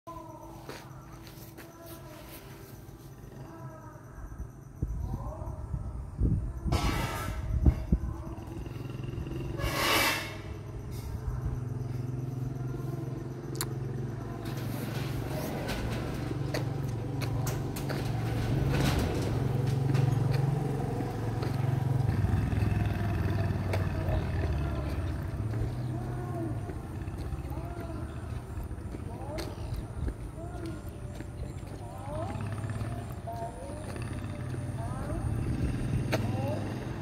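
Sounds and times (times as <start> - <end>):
motorbike engines in traffic: 0.1 - 37.0.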